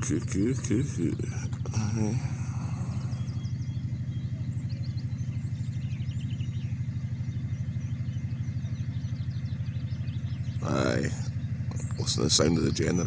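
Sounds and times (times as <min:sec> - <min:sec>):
birdsong chirping: 0:00.0 - 0:13.0
generator pulsing hum: 0:00.0 - 0:13.0.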